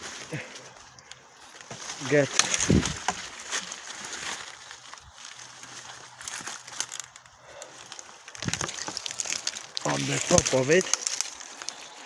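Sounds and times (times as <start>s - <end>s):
dry leaves and twigs crackling: 0.0s - 12.0s.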